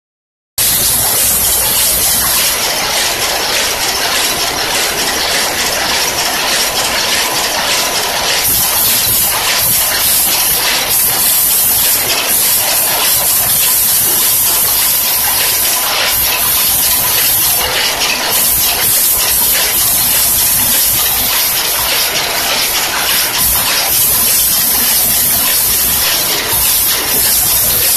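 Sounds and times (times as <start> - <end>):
machine hiss: 0.6 - 27.9
packing machine clattering: 0.6 - 27.9.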